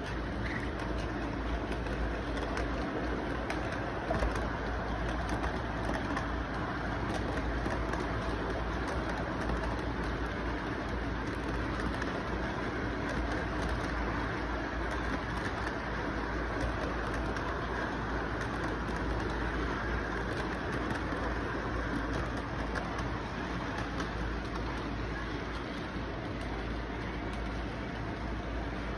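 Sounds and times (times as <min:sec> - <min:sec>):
model train rumbling on track: 0:00.0 - 0:28.9
wheels clicking over rails: 0:00.0 - 0:28.9.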